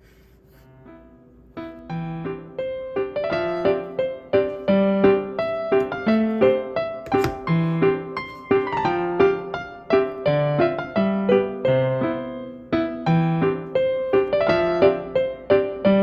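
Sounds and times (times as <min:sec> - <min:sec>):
piano music: 0:00.5 - 0:16.0.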